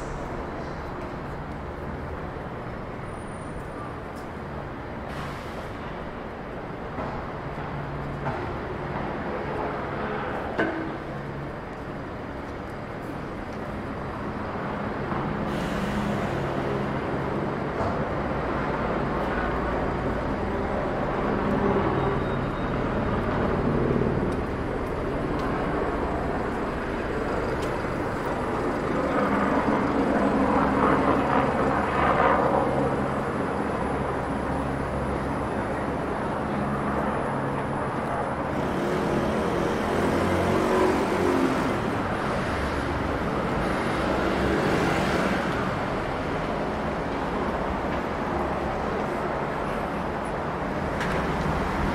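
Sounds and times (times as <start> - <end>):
vehicle engines humming: 0.0 - 51.9
vehicles passing: 0.0 - 51.9.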